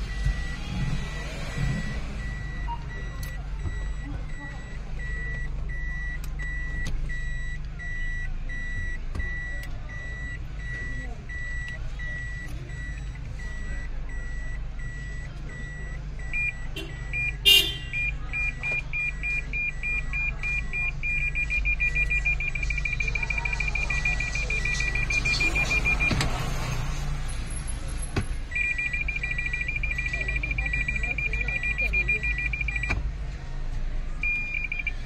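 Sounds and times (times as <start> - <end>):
reverse warning beeper: 0.0 - 26.7, 28.5 - 33.0
parking sensor beeping: 0.0 - 26.8, 27.5 - 35.0
low engine hum: 0.0 - 35.0.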